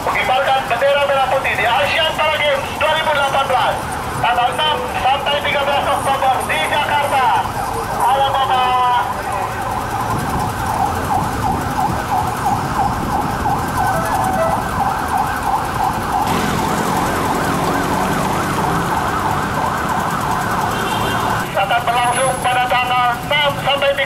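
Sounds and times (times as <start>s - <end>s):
siren yelping: 0.0s - 23.9s
low engine rumble: 0.0s - 24.0s.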